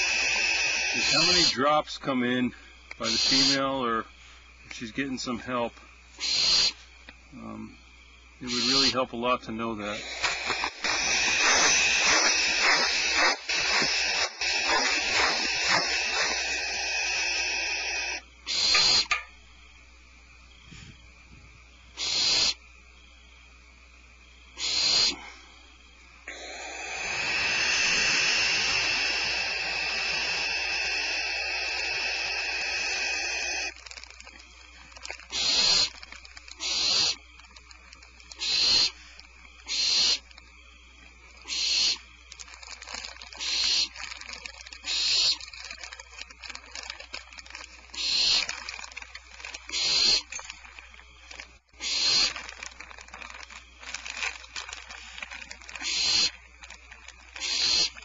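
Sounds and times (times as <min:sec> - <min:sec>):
barn owls hissing: 0:00.0 - 0:19.8, 0:21.9 - 0:22.7, 0:24.3 - 0:58.0.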